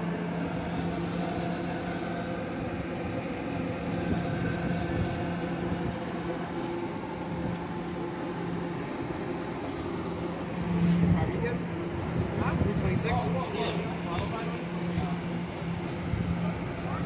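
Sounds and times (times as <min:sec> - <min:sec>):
subway train humming: 0:00.0 - 0:17.0.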